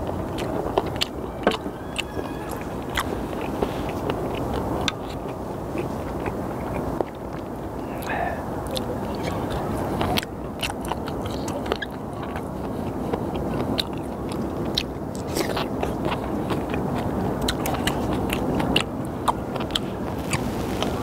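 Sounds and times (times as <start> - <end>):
chewing with wet crunches: 0.0 - 21.0
low background rumble: 0.0 - 21.0.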